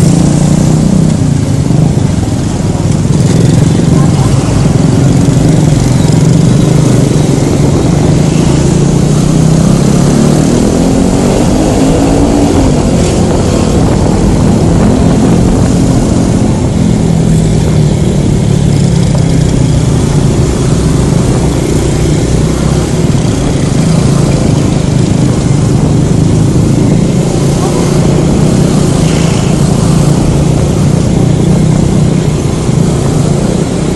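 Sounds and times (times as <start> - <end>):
scooter engine running: 0.0 - 33.9
wind and road noise: 0.0 - 33.9.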